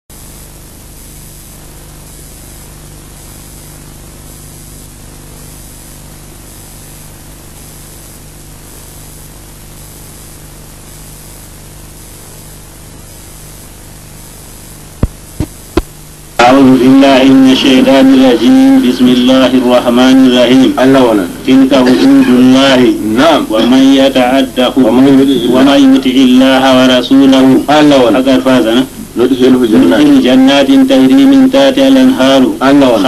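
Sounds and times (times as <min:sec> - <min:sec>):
low electrical hum: 0:00.1 - 0:33.0
steady hiss: 0:00.1 - 0:33.0.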